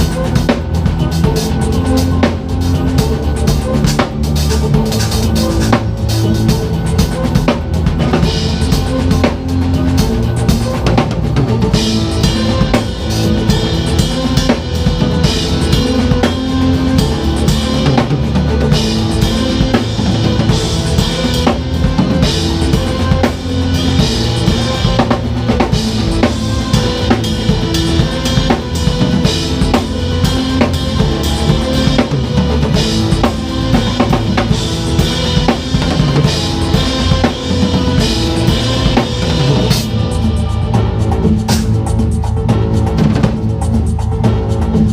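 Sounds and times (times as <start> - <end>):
backing track sustained notes: 0.0 - 44.9
drum kit groove: 0.0 - 44.9.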